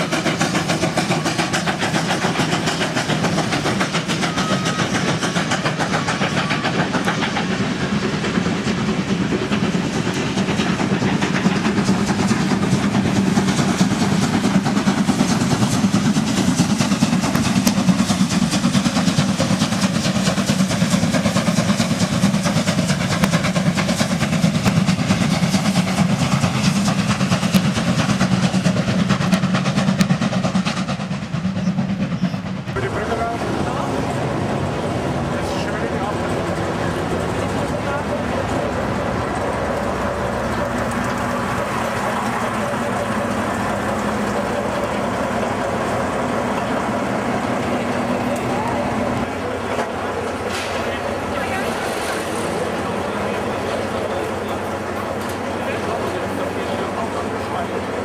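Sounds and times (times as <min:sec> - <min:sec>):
coach wheels clattering on rails: 0:00.0 - 0:58.0
steam locomotive exhaust beat: 0:00.0 - 0:58.0.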